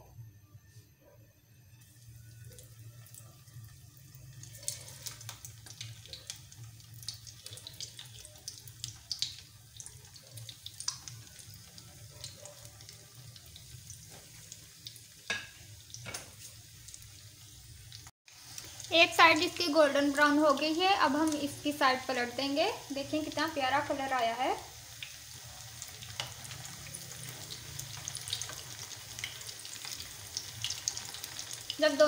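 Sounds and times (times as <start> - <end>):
food sizzling in hot oil: 1.7 - 32.0.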